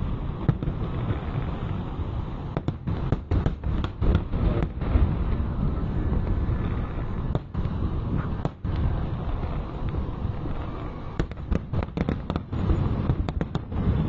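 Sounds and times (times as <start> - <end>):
fireworks booming: 0.0 - 14.0
fireworks cracks and pops: 0.0 - 14.0.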